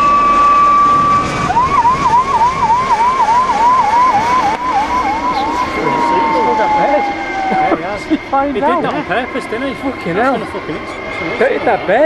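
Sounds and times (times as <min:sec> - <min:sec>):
helicopter siren yelping: 0:00.0 - 0:12.0.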